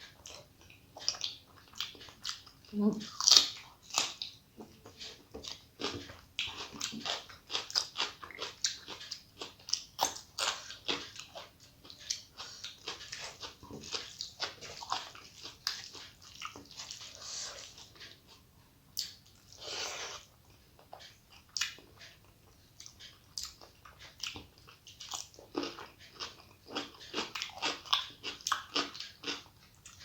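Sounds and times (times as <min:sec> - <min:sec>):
person chewing and lip-smacking: 0:00.1 - 0:30.0.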